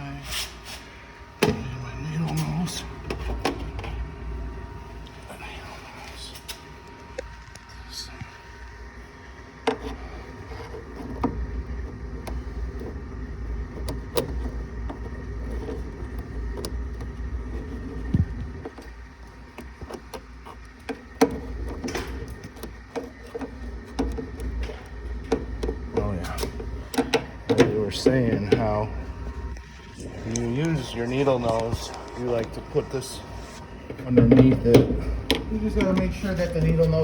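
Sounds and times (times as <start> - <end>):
steady low rumble: 1.0 - 19.6, 24.4 - 37.0.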